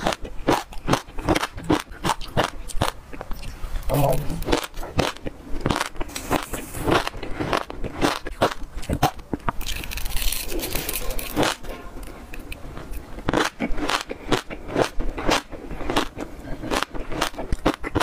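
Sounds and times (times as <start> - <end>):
biting and chewing crunchy fruit: 0.0 - 18.0.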